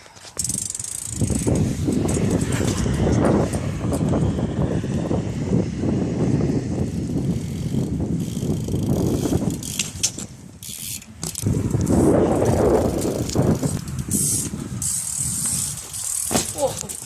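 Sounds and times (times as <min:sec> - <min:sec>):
bike tyres rolling on pavement: 0:00.0 - 0:17.0
wind on microphone: 0:00.0 - 0:17.0
sharp clicks and rattles: 0:00.1 - 0:04.2, 0:07.4 - 0:17.0.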